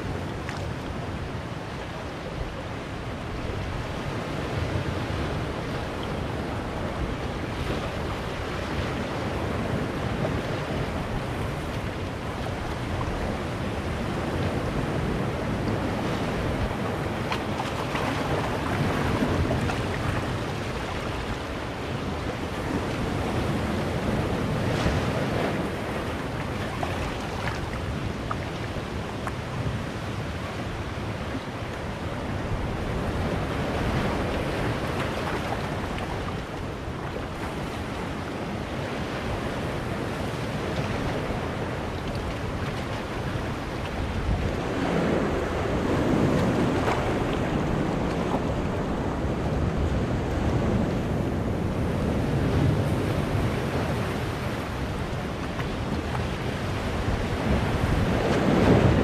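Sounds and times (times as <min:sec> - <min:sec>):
sea surf washing among boulders: 0:00.0 - 0:59.0.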